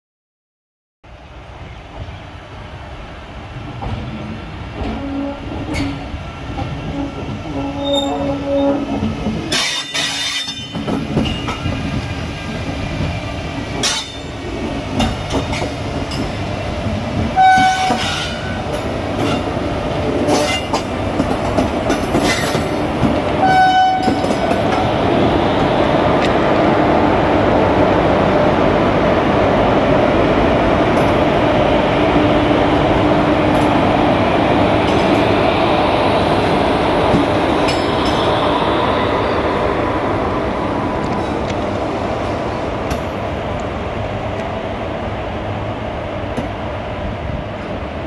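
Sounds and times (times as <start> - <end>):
diesel locomotive engine: 1.1 - 48.0.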